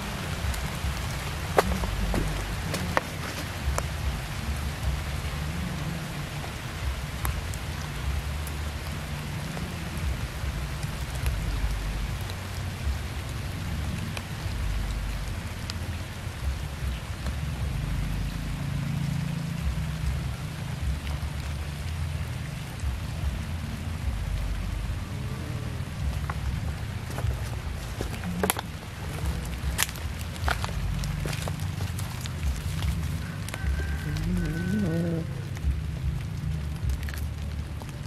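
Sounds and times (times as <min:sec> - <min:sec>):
low rumble: 0:00.0 - 0:38.0
steady outdoor hiss: 0:00.0 - 0:38.0.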